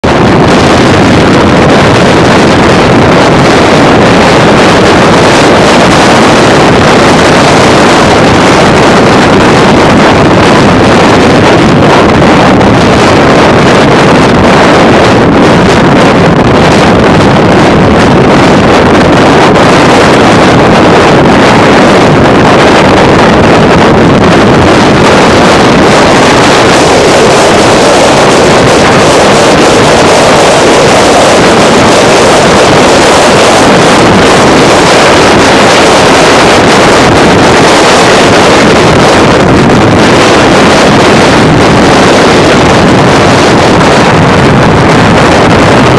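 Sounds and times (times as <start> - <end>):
road noise: 0.0 - 45.9
wind rushing on microphone: 0.0 - 45.9.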